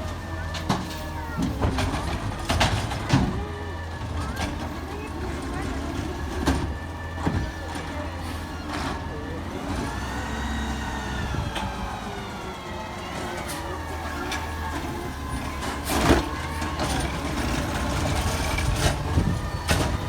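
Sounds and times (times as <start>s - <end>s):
garbage truck running: 0.0s - 20.0s.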